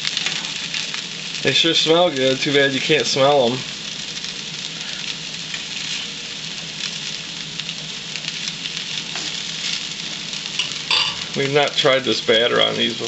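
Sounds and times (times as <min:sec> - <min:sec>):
mushrooms sizzling in a skillet: 0:00.0 - 0:13.0.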